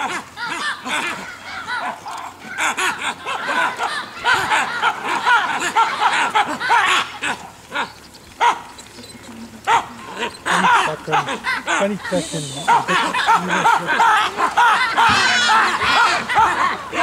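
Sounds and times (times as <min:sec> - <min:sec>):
baboons grunting: 0:00.0 - 0:17.0
baboons screaming: 0:00.0 - 0:17.0.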